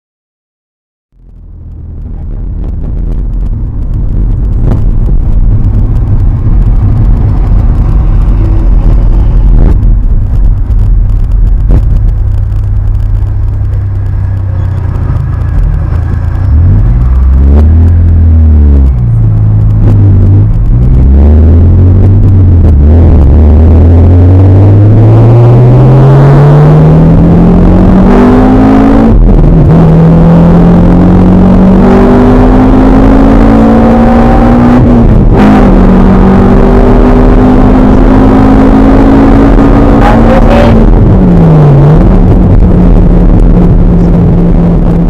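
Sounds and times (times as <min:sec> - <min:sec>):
car engine and road noise: 0:01.1 - 0:45.0.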